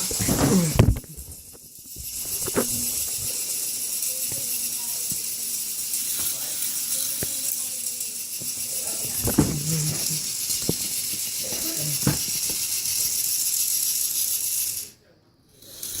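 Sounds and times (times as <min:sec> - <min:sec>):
steady hiss: 0:00.0 - 0:14.9
toy roller coaster clattering: 0:00.0 - 0:15.0, 0:15.6 - 0:16.0.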